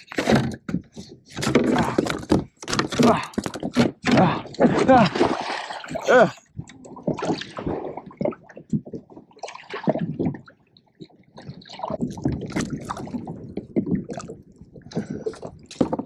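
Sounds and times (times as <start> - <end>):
water splashing and dripping: 1.4 - 16.0.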